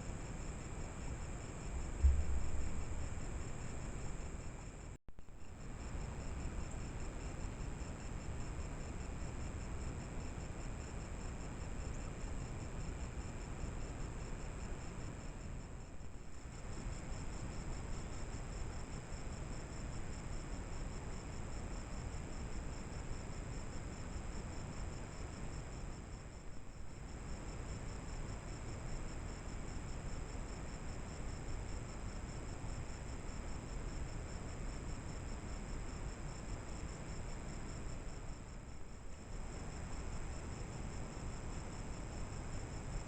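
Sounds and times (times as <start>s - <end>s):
low microphone hiss: 0.0s - 43.0s.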